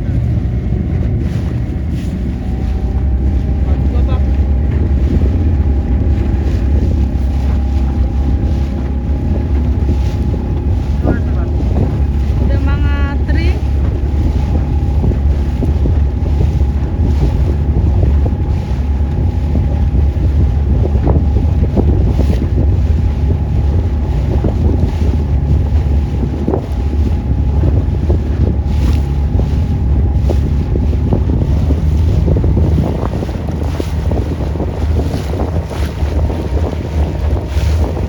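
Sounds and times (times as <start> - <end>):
boat motor whine: 0.0 - 38.0
wind buffeting microphone: 0.0 - 38.0.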